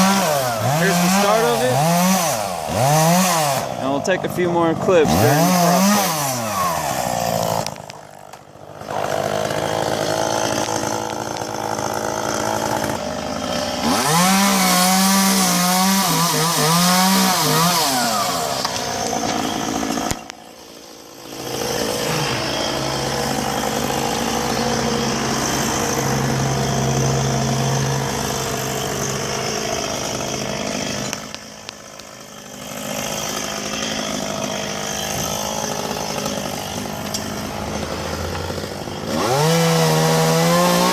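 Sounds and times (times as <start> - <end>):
chainsaw running and cutting: 0.0 - 40.9.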